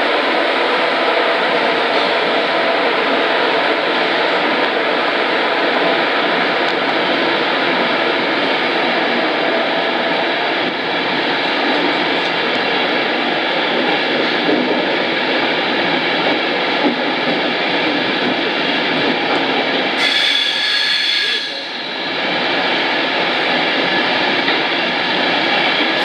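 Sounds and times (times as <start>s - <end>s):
train wheels rushing on rail: 0.0s - 26.0s.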